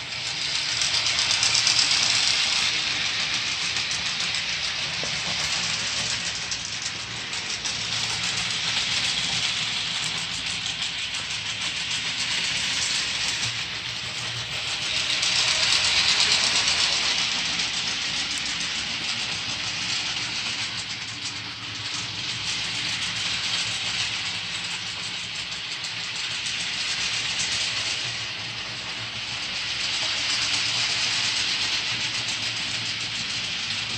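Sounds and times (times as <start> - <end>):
model train whirring: 0.0 - 33.9
rapid clicking from rails: 0.0 - 33.9.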